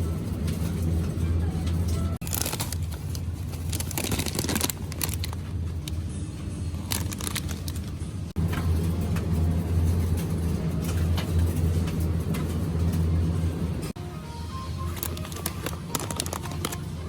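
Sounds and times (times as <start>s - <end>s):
vehicle rumbling in motion: 0.0s - 17.0s.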